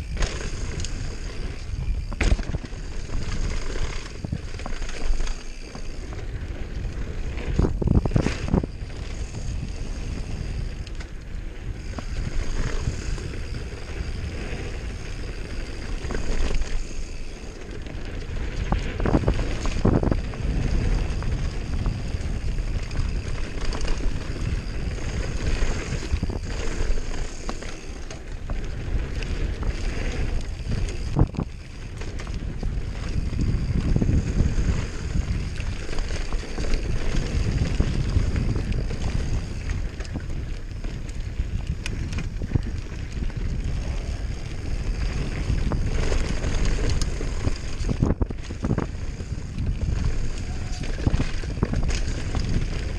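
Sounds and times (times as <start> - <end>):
bike rattling: 0.0 - 52.9
tyres rumbling over dirt: 0.0 - 52.9
wind buffeting microphone: 0.0 - 52.9.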